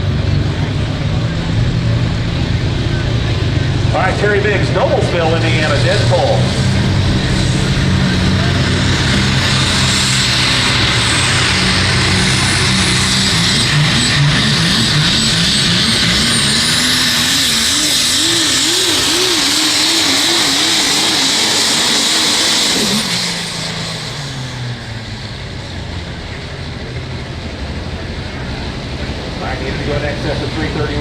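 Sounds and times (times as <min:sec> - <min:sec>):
diesel truck engine surging: 0:00.0 - 0:31.0.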